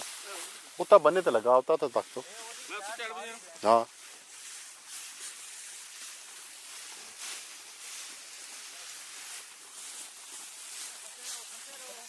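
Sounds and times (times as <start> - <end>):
faint outdoor hiss: 0.0 - 12.0
tall grass rustling: 0.0 - 12.0.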